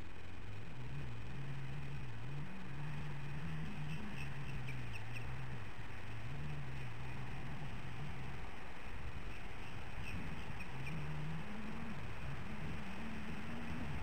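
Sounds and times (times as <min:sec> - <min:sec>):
low wavering drone: 0:00.0 - 0:14.0
microphone hiss: 0:00.0 - 0:14.0.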